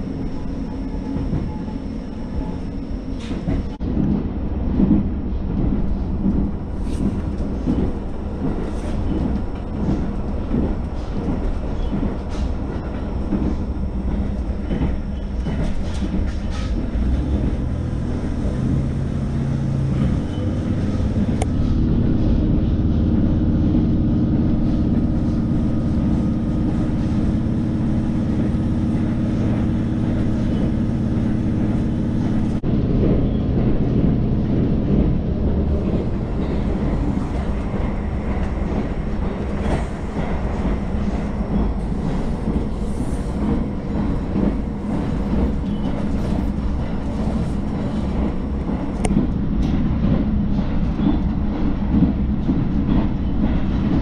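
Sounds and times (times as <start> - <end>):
diesel railcar drone: 0.0 - 54.0
rail noise: 0.0 - 54.0.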